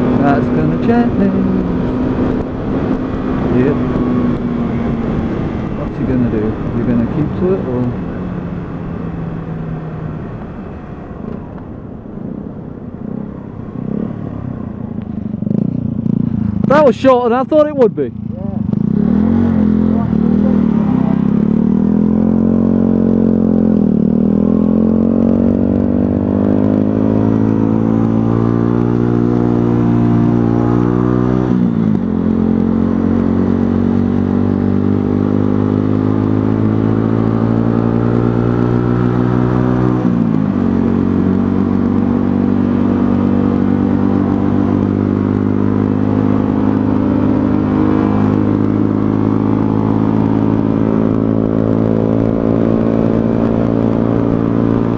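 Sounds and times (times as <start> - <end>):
motorcycle engine shifting gears: 0.0 - 54.9.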